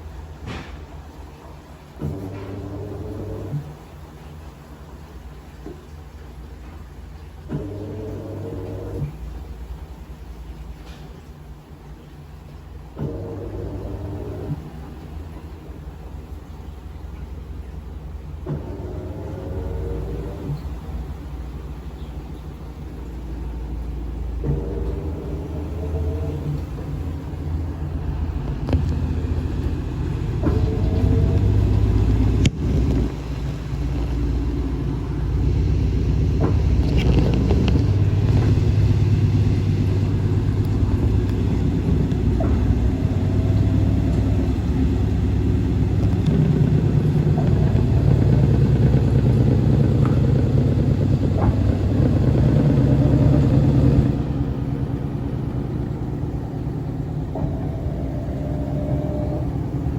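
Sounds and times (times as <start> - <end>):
washing machine spin cycle rumble: 0.0 - 59.9.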